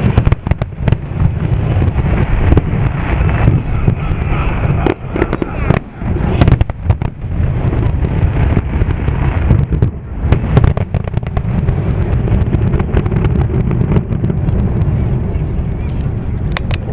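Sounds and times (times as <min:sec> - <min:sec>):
fireworks crackling and popping: 0:00.0 - 0:16.9
low rumble: 0:00.0 - 0:16.9.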